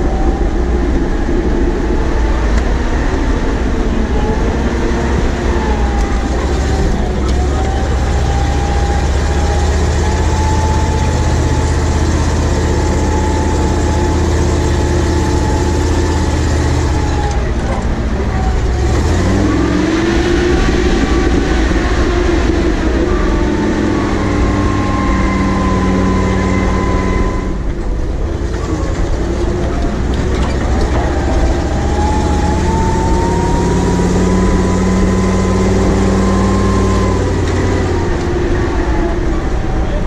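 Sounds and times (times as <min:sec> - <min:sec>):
truck engine drone: 0:00.0 - 0:40.0
whining tone: 0:00.0 - 0:40.0.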